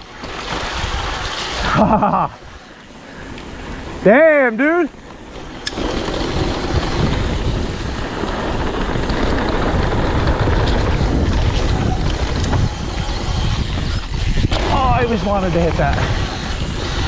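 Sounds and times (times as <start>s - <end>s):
bike rumbling on dirt trail: 0.0s - 17.0s
wind buffeting microphone: 0.0s - 17.0s.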